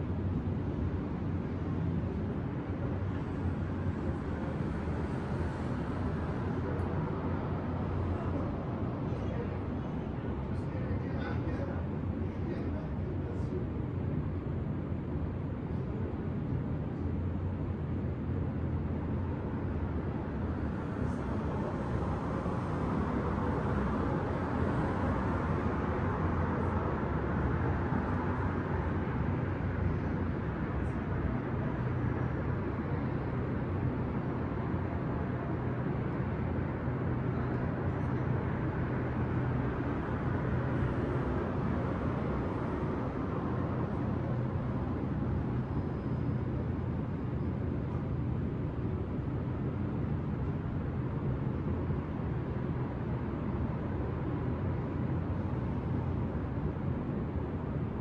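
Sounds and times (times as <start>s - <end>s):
rush of cars: 0.0s - 58.0s.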